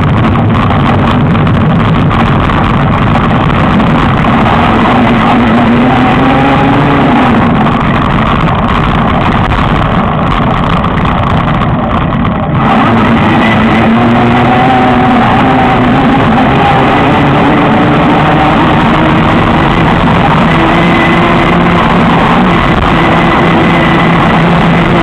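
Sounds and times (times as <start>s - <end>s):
electric motor whining: 0.0s - 25.0s
wind and road noise: 0.0s - 25.0s.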